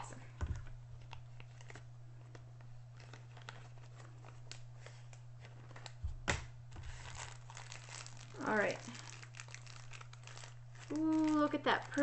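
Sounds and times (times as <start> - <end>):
steady low hum: 0.0 - 12.0
plastic bags crinkling: 0.5 - 6.0, 6.7 - 12.0.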